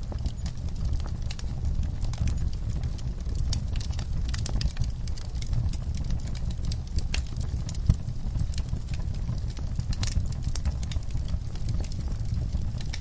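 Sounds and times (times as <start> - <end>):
sharp pops of fire: 0.0 - 13.0
wood fire crackling: 0.0 - 13.0.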